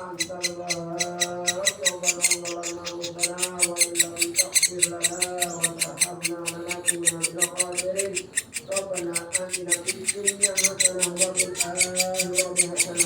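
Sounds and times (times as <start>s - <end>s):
bird chick chirping: 0.0s - 13.0s.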